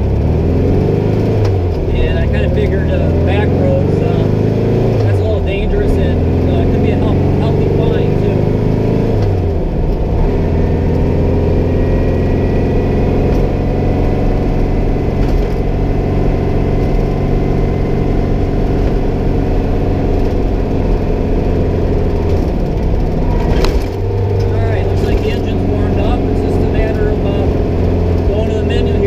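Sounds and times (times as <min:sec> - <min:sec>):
car engine drone: 0:00.0 - 0:29.0
road noise: 0:00.0 - 0:29.0.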